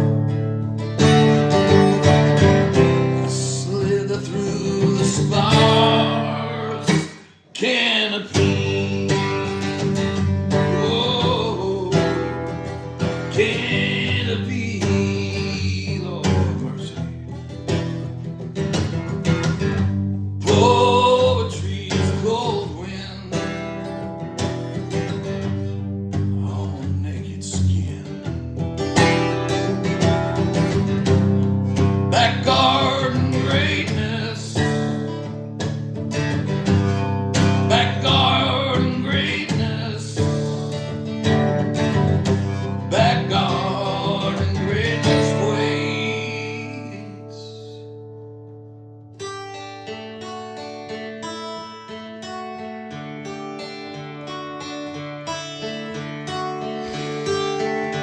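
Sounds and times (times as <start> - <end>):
plucked and strummed guitar: 0.0 - 58.0.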